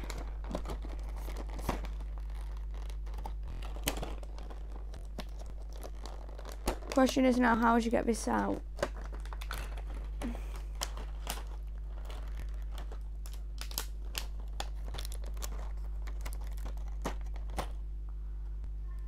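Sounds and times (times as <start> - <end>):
plastic packaging crinkling: 0.0 - 17.8
steady low hum: 0.0 - 19.0.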